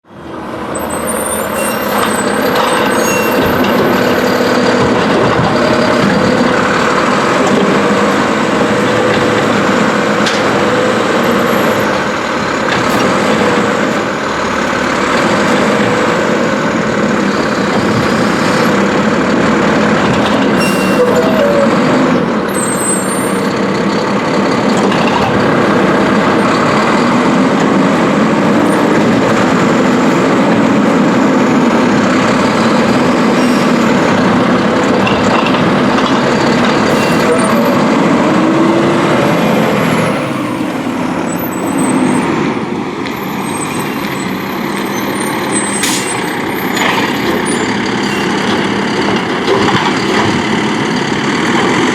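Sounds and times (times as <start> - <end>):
garbage truck engine running: 0.1 - 51.9.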